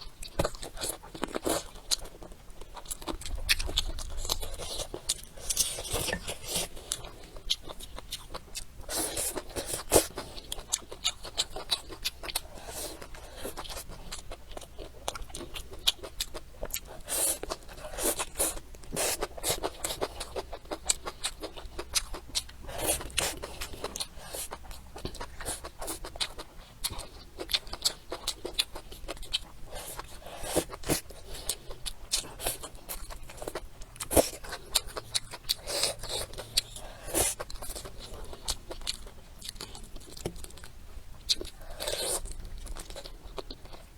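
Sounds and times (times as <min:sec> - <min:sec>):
chewing with wet mouth clicks: 0:00.0 - 0:43.9.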